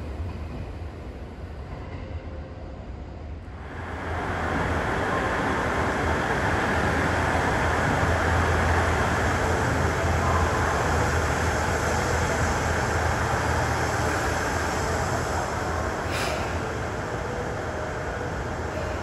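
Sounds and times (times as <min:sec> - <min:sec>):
electric train running hum: 0:00.0 - 0:19.0.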